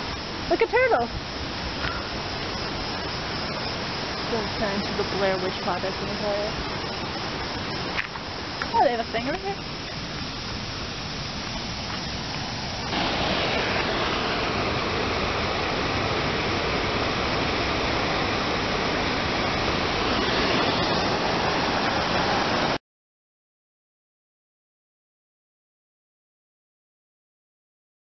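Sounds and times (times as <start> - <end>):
water rushing over a weir: 0.0 - 22.8.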